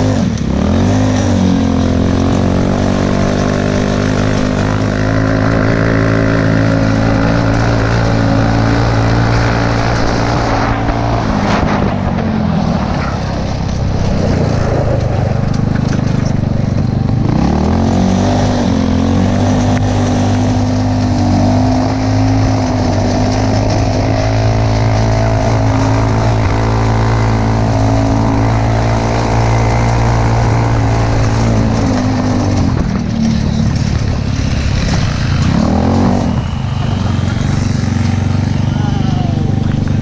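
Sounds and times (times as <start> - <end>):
buggy engine running: 0.0 - 40.0
engine revving: 0.0 - 40.0.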